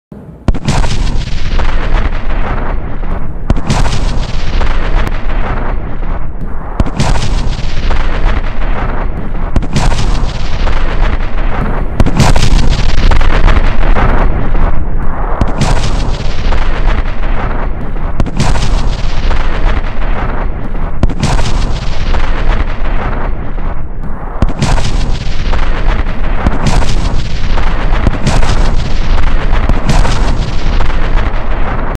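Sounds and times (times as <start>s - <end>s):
bomb explosions with rumbling roar: 0.1s - 32.0s.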